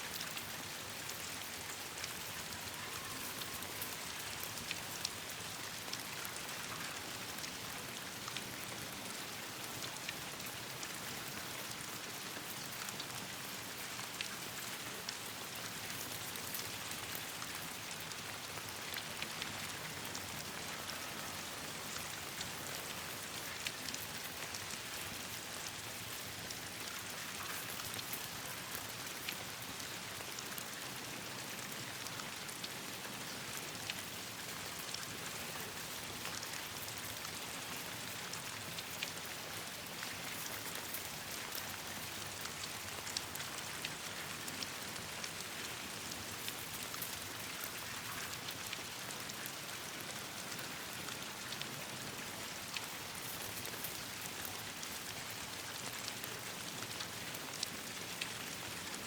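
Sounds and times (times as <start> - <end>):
rain falling on leaves: 0.0 - 59.0.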